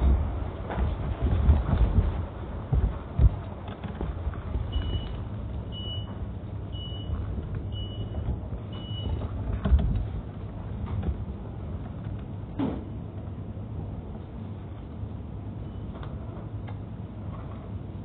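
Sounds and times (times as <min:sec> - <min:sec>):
low rumble of movement: 0:00.0 - 0:18.0.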